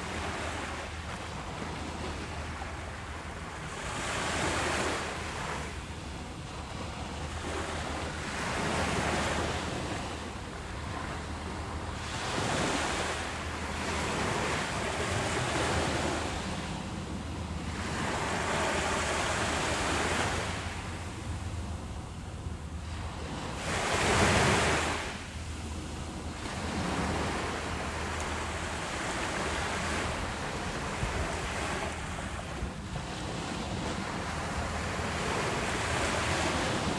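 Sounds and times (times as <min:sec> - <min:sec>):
ocean waves breaking: 0:00.0 - 0:36.9
wind rumble on microphone: 0:00.0 - 0:36.9.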